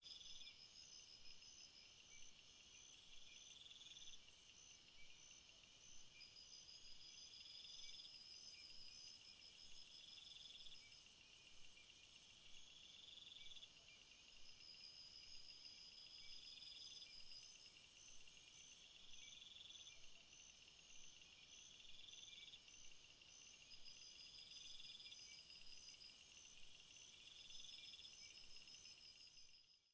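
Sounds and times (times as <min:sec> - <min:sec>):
crickets chirping: 0:00.1 - 0:29.9
low insect trill: 0:00.2 - 0:29.9.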